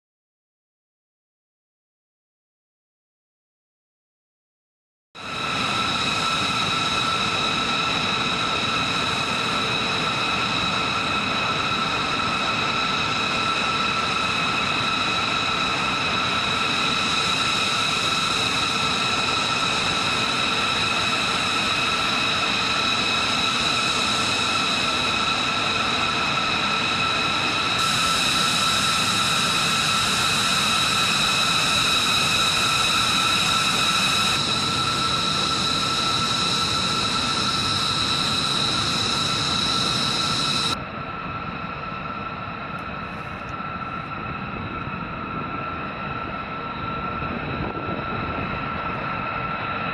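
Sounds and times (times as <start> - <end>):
jet engines idling: 5.2 - 49.9.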